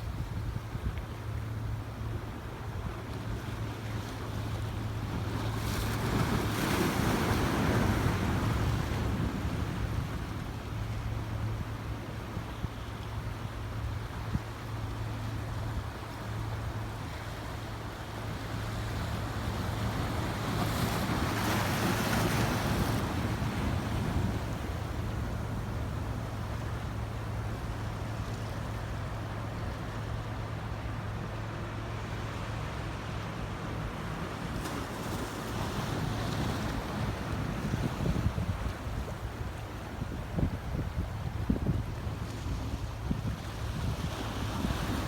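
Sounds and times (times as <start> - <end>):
ocean waves against rocks: 0.0 - 45.0.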